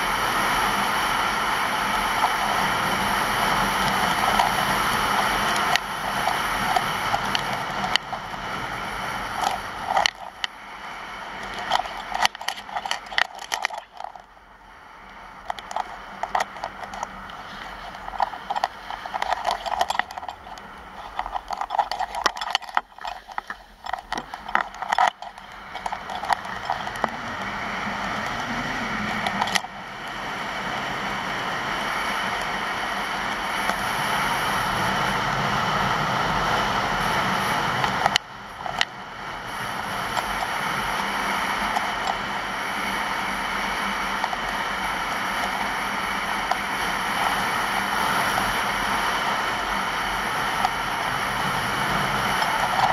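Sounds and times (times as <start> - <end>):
skis scraping over snow: 0.0 - 14.2, 15.3 - 52.9.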